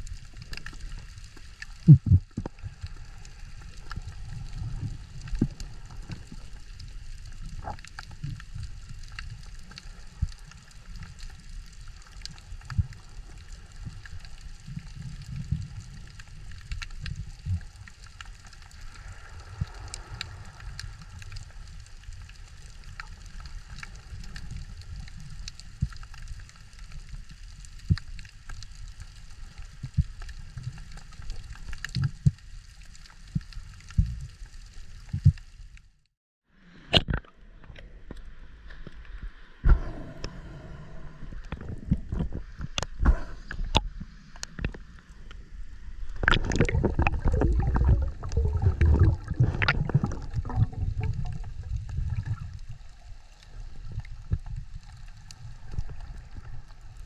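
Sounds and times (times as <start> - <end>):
faint clicks and crackles: 0.0 - 36.1, 41.3 - 57.0
underwater water rumble: 0.0 - 57.0.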